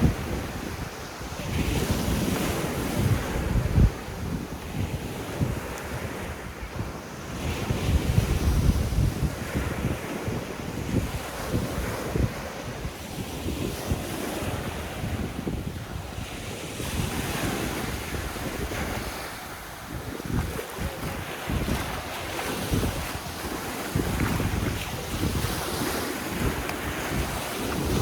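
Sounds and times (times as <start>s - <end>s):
sea waves washing on shore: 0.0s - 28.0s
wind buffeting microphone: 0.0s - 28.0s.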